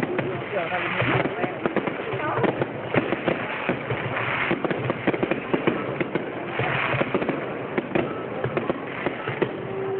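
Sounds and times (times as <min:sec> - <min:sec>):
fireworks bangs and crackles: 0:00.0 - 0:09.9
sharp firework reports: 0:00.0 - 0:09.9.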